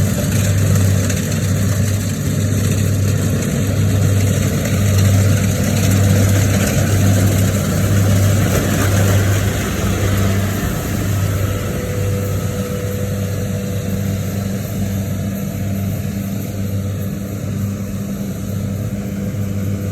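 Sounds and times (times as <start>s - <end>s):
engine humming: 0.0s - 19.9s.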